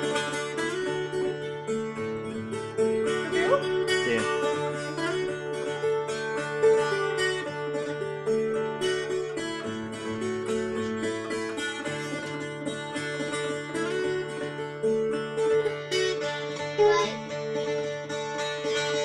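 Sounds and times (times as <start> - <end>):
plucked string instrument: 0.0 - 19.0.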